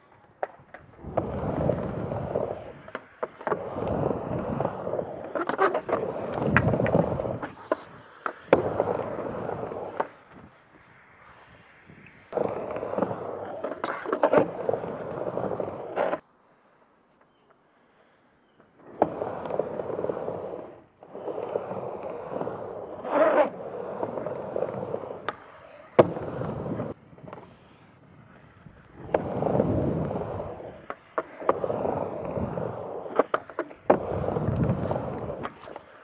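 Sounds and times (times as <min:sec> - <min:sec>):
skateboard wheels rolling on wood: 0:00.0 - 0:36.0.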